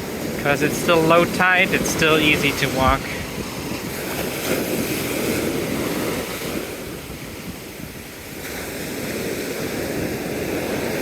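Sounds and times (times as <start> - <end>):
surf breaking on shore: 0.0 - 11.0
wind on microphone: 0.0 - 11.0.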